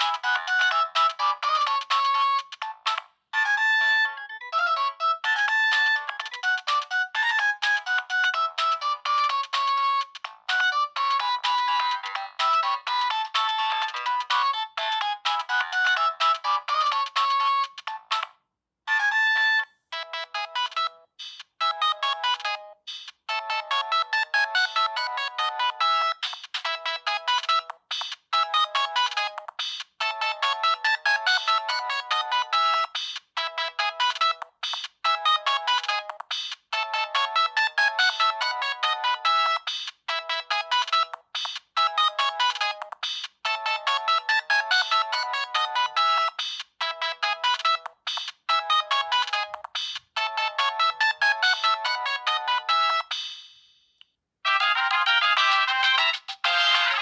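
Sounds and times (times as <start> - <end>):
polyphonic phone ringtone: 0.0 - 18.3, 18.9 - 53.2, 54.5 - 57.0.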